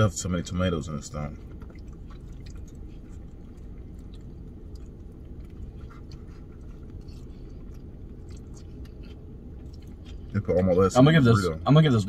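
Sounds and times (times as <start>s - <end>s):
low rumble inside car: 0.0s - 12.0s
people chewing food: 0.4s - 11.6s.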